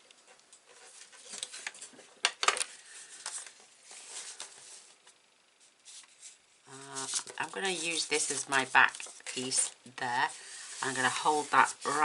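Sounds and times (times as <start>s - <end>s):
paper rustling: 0.7s - 5.1s, 5.8s - 12.0s.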